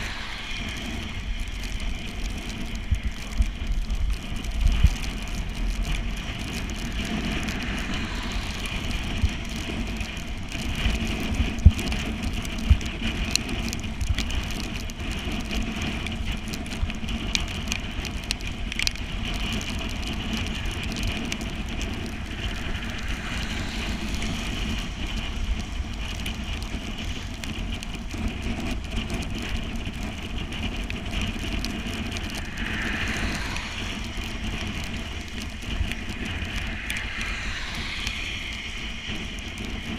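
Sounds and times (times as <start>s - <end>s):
bicycle riding on wet road: 0.0s - 39.9s.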